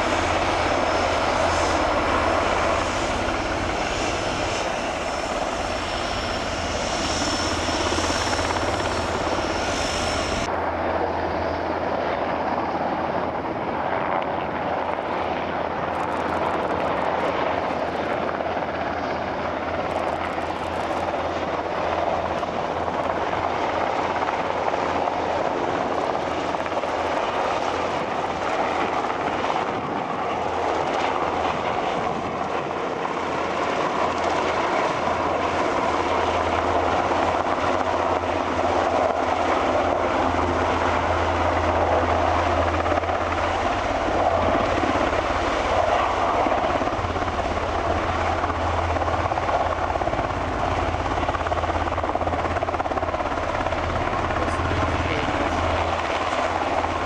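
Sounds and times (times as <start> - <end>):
helicopter rotor beating: 0.0 - 57.0
turbine engine noise: 0.0 - 57.0.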